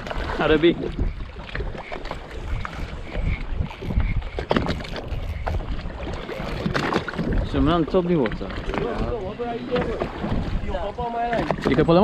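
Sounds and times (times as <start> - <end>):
water lapping against hull: 0.0 - 12.0
wind buffeting microphone: 0.0 - 12.0.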